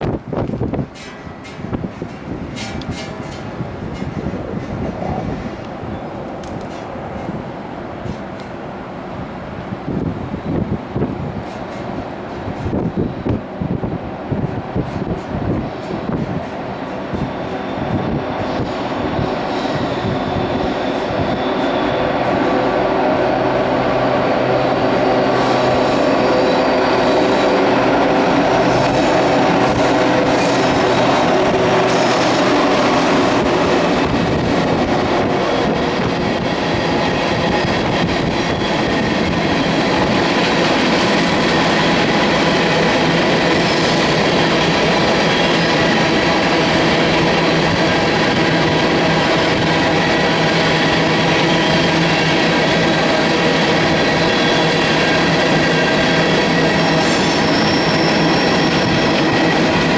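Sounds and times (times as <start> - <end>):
diesel locomotive engines: 0.0 - 59.9
train wheels on rails ringing: 0.4 - 5.6, 14.7 - 59.9.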